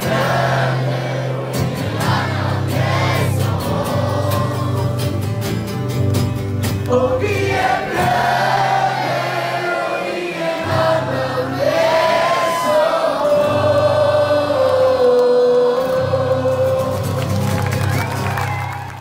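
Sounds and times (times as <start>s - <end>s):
choir singing: 0.0s - 5.2s, 6.9s - 17.3s.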